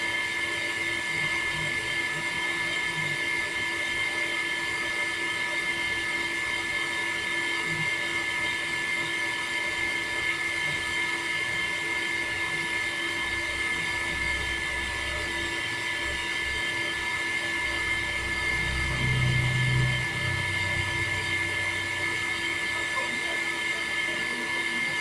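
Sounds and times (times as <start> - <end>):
electric water pump whining: 0.0 - 25.0.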